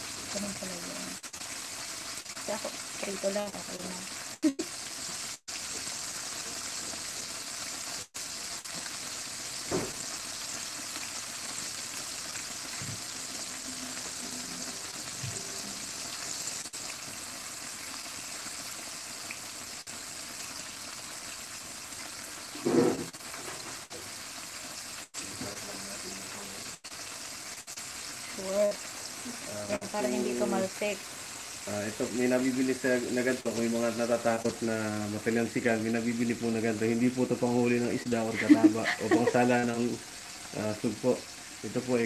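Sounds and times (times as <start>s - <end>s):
chicken deep-frying in hot oil: 0.0s - 42.0s.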